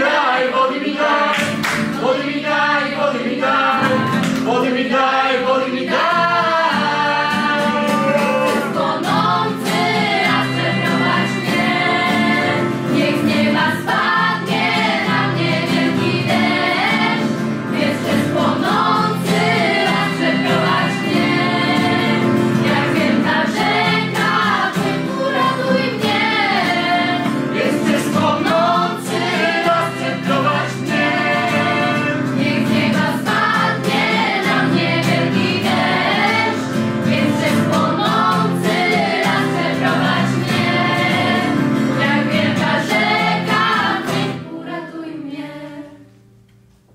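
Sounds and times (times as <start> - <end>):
strummed acoustic guitars: 0.0 - 44.8
female voices singing in harmony: 0.0 - 46.1.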